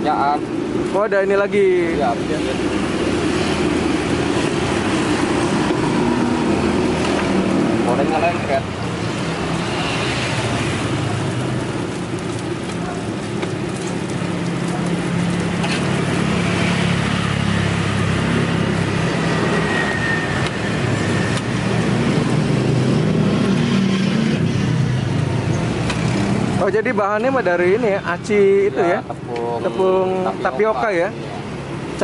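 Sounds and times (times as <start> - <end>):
road traffic hum: 0.0 - 32.0.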